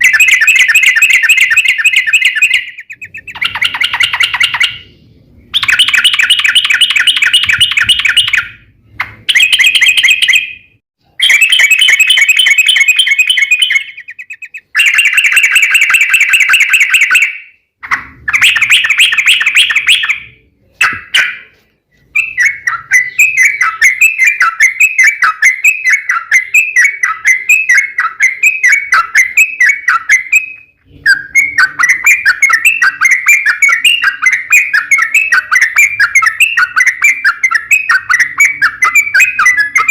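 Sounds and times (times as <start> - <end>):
bird rapid rising and falling notes: 0.0 - 39.9
bulbul chattering song: 0.0 - 39.9.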